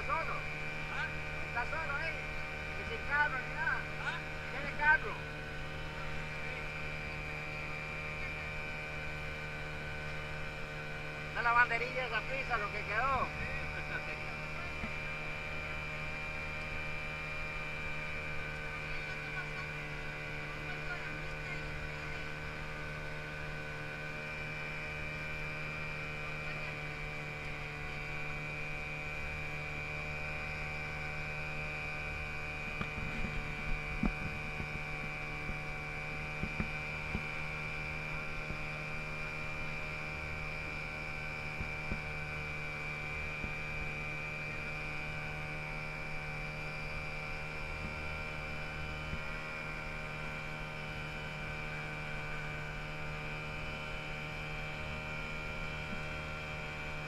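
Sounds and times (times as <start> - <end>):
machine drone: 0.0 - 57.0.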